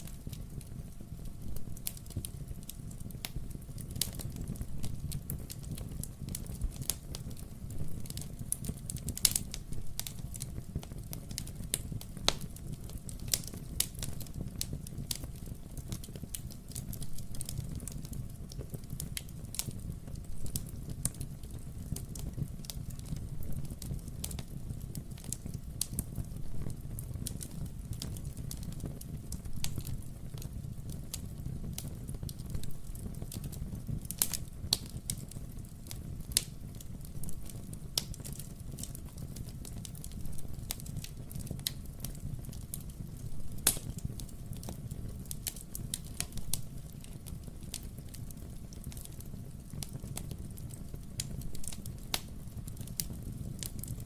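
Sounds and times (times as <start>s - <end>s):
pops and snaps of burning logs: 0.0s - 54.0s
wood fire crackling: 0.0s - 54.0s.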